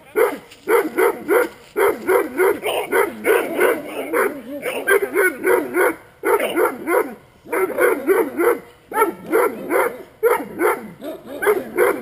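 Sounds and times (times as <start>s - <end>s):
large dog barking: 0.0s - 12.0s.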